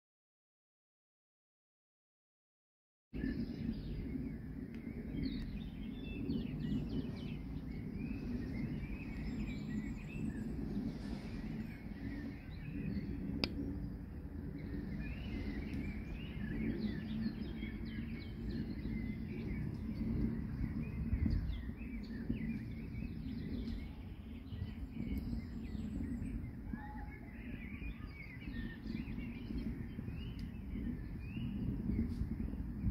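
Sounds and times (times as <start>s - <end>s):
birds chirping: 3.2s - 32.9s
low rumble: 3.2s - 32.9s.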